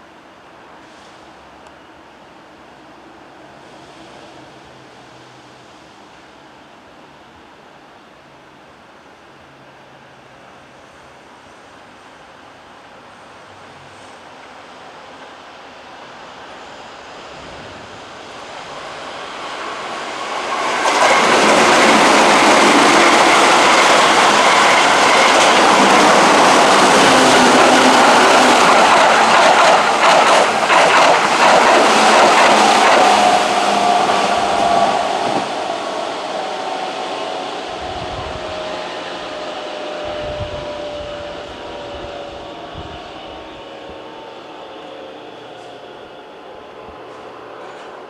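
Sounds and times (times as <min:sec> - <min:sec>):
electric train passing at speed: 0:00.0 - 0:48.0.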